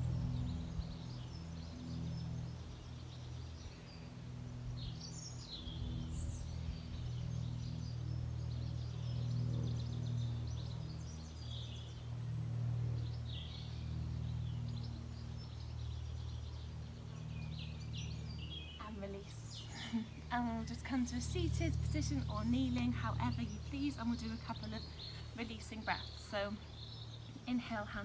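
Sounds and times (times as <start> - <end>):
garden birds chirping: 0.0 - 28.0
low steady drone: 0.0 - 28.0.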